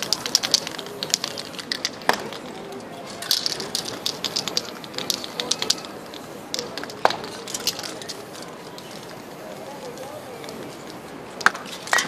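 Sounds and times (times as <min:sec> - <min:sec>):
spray can bursts: 0:00.0 - 0:12.0.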